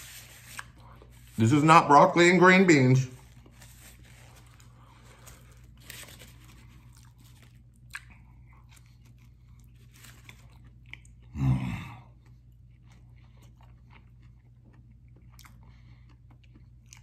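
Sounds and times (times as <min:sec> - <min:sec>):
man chewing food: 0:03.2 - 0:17.0.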